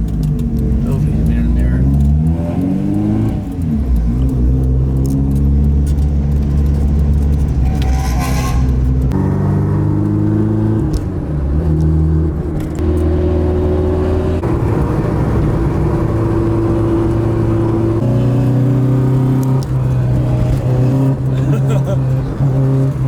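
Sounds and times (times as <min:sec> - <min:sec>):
car engine running: 0:00.0 - 0:07.8, 0:08.8 - 0:23.0.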